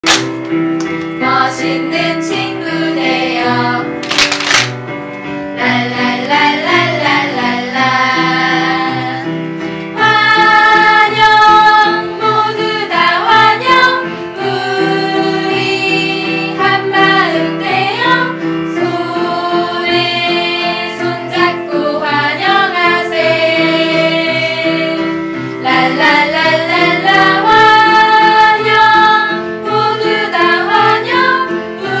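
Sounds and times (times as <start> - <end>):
women singing together: 1.2 - 4.0, 5.6 - 9.4, 10.0 - 32.0.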